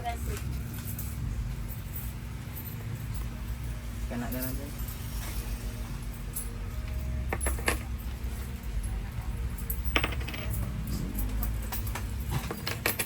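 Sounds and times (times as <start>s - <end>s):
low steady hum: 0.0s - 13.0s
coins clinking on counter: 0.1s - 13.0s.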